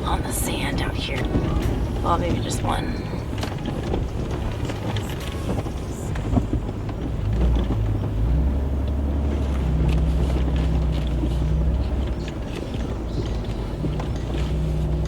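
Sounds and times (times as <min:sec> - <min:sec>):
truck engine running under load: 0:00.0 - 0:15.0.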